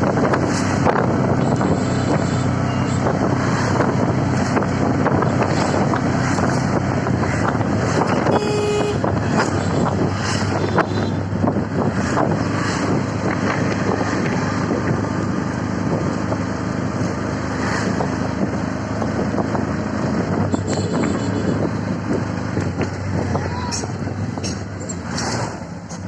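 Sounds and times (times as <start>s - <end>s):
wind buffeting microphone: 0.0s - 8.4s, 9.0s - 24.8s
auto-rickshaw engine hum: 0.0s - 26.0s.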